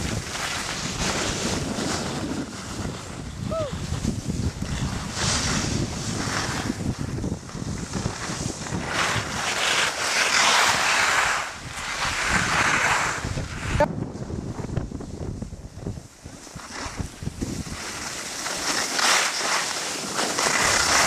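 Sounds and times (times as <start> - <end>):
wind buffeting microphone: 0.0 - 9.9, 10.6 - 18.2
skis scraping on snow: 0.0 - 21.0.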